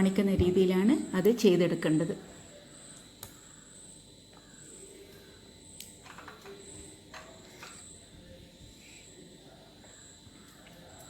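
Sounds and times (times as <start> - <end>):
cricket chirping: 1.0 - 11.0.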